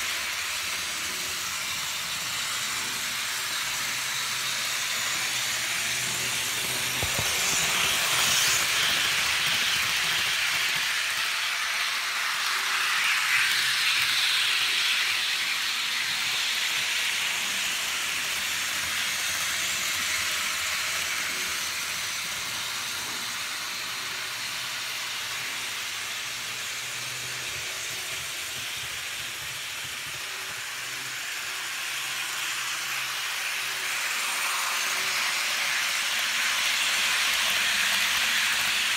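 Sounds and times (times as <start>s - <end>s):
model train motors whirring: 0.0s - 38.9s
model train wheels on rails: 0.0s - 38.9s.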